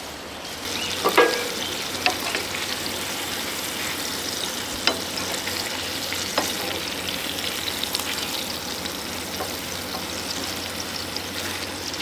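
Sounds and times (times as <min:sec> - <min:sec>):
burger patties sizzling in a pan: 0:00.4 - 0:12.0.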